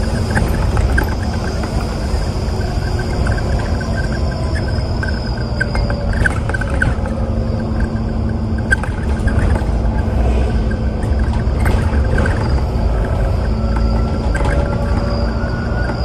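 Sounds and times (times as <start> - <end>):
bus engine and road rumble: 0.0 - 16.0
cabin fittings rattling and squeaking: 0.0 - 16.0.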